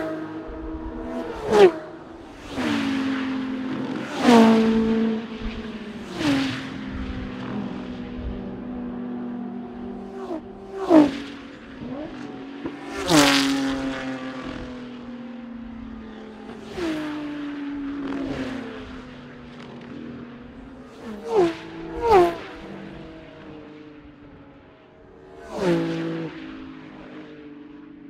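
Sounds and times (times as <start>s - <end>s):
engines running: 0.0s - 28.0s
racing cars passing at speed: 0.0s - 28.0s.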